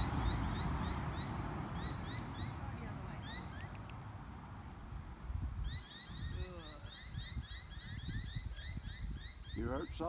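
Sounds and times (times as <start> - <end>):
small birds chirping: 0.0 - 4.0, 5.6 - 10.0.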